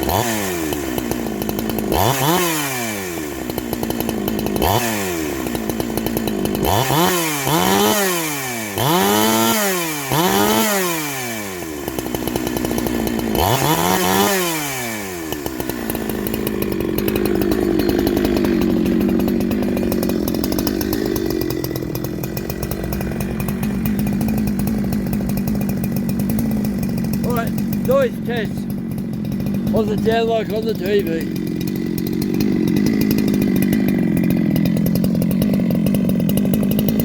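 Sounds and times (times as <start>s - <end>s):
chainsaw revving and idling: 0.0s - 37.0s.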